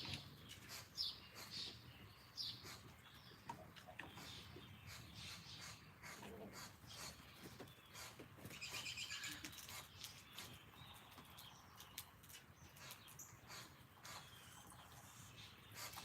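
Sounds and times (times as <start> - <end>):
faint bird song: 0.0 - 16.0.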